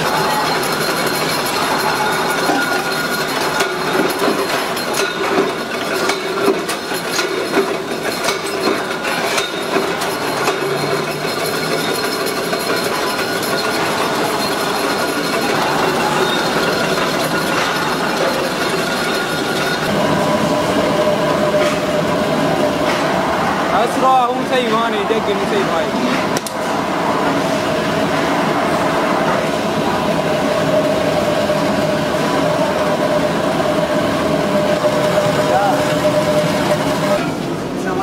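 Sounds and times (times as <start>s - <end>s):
steady machine whine: 0.0s - 38.0s
steady mechanical din: 0.0s - 38.0s.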